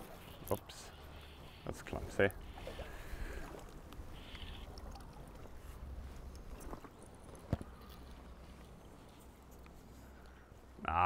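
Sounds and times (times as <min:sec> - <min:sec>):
faint water sounds: 0:00.0 - 0:11.0.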